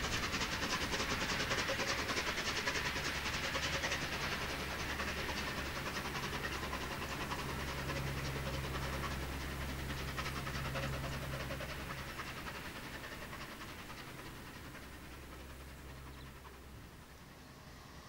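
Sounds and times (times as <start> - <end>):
steam locomotive chuffing: 0.0 - 18.0.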